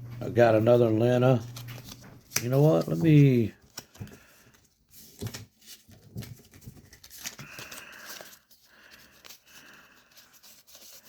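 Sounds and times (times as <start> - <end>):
trading cards rustling and clicking: 0.5 - 11.0.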